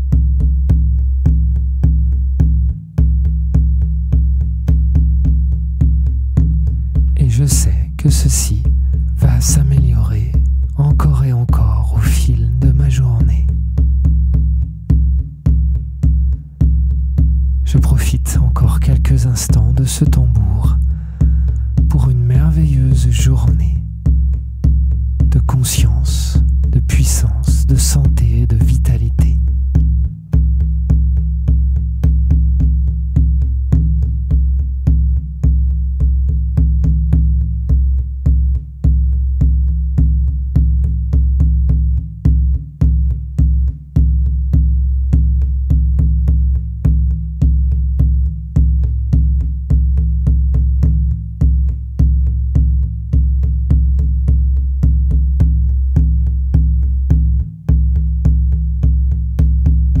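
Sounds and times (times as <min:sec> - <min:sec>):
frame drum beaten steadily: 0:00.0 - 1:00.0.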